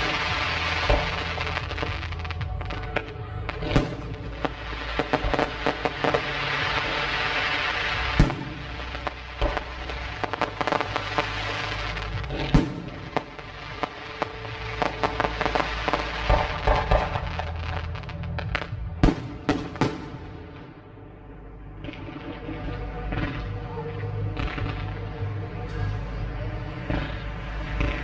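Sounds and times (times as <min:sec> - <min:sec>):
fireworks exploding: 0:00.0 - 0:28.0
music playing: 0:00.0 - 0:28.0.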